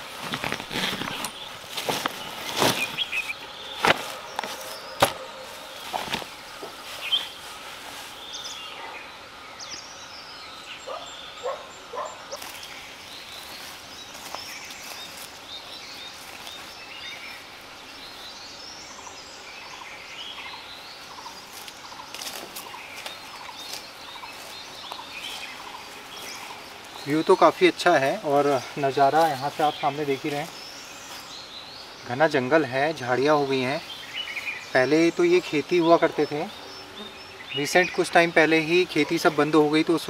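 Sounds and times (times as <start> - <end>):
birds chirping and singing: 0.0 - 40.0
faint outdoor hiss: 0.0 - 40.0.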